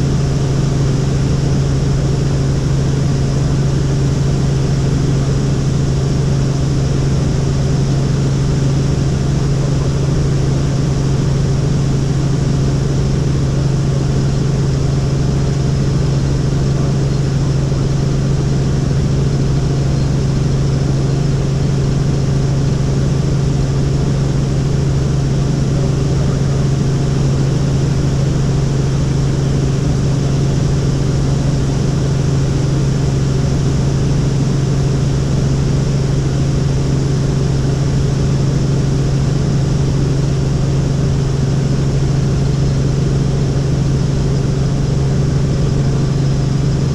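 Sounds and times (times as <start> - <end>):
helicopter in flight: 0.0 - 46.9.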